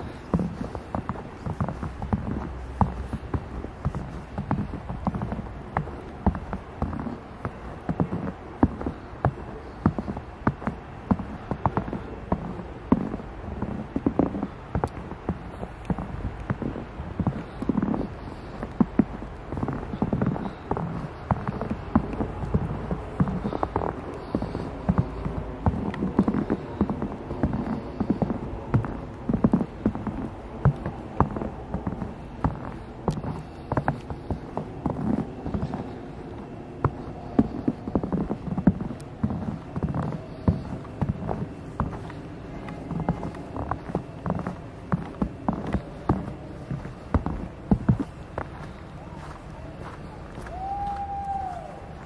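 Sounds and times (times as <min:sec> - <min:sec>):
footsteps crunching in snow: 0:00.0 - 0:52.0.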